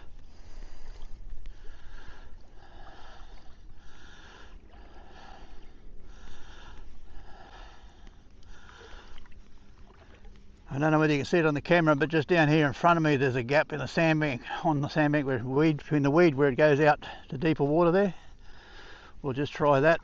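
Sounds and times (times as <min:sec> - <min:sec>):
wading through shallow water: 0:00.0 - 0:20.0.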